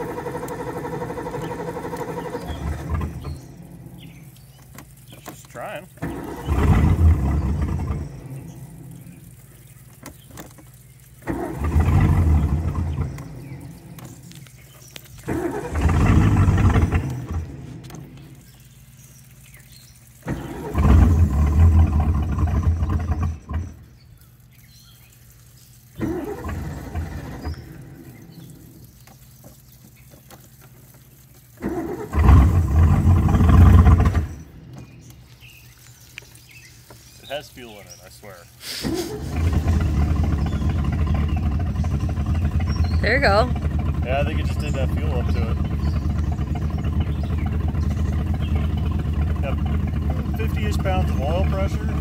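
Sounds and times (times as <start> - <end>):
engine starter cranking: 0.0 - 18.6, 20.1 - 23.9, 25.8 - 29.3, 30.3 - 35.6, 38.6 - 52.0.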